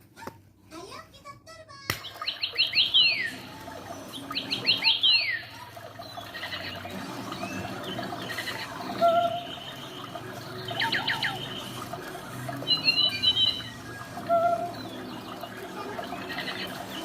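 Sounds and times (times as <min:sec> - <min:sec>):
bird singing: 0:02.0 - 0:17.0.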